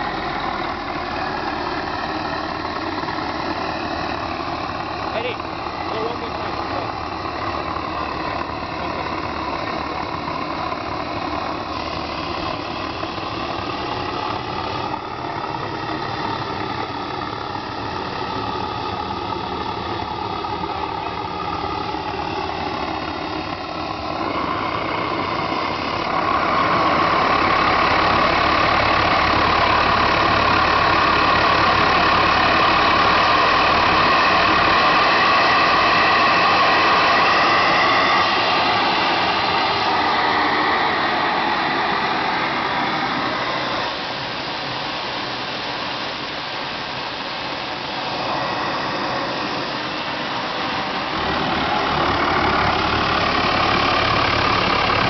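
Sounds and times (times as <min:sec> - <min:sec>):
turbojet engine whining: 0:00.0 - 0:55.0.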